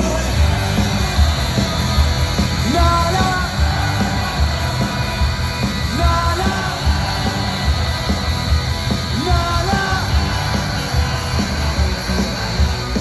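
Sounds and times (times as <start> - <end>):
crowd yelling: 0.0 - 13.0
live rock band playing: 0.0 - 13.0
drum beat: 0.3 - 13.0.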